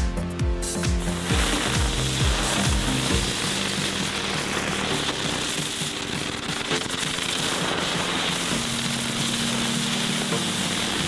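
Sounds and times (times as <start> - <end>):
firecrackers fizzing and crackling: 1.0 - 11.0.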